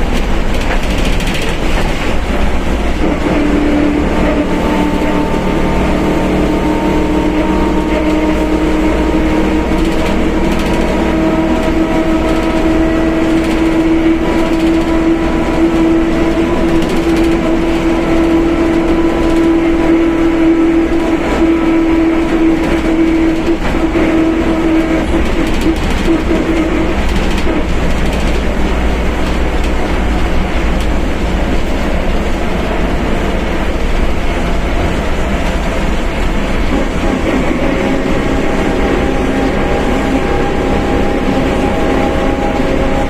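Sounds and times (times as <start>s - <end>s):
bus differential whine: 0.0s - 43.0s
bus engine and road rumble: 0.0s - 43.0s.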